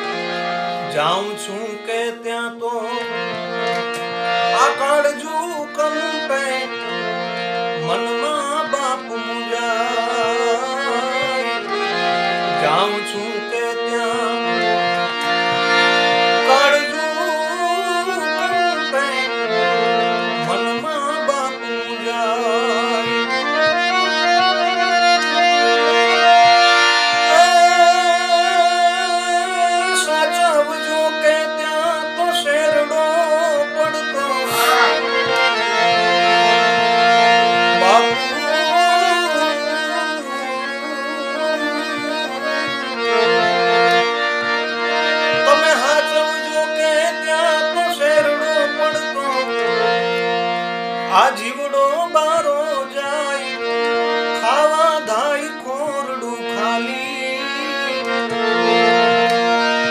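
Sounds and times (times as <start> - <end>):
harmonium drone: 0.0 - 59.9
keyboard melody with vibrato: 0.0 - 59.9.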